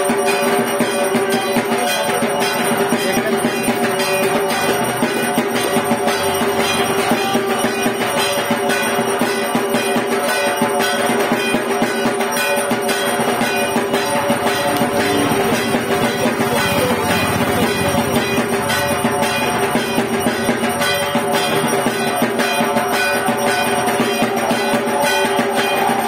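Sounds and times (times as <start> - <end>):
music with steady beat: 0.0 - 26.0.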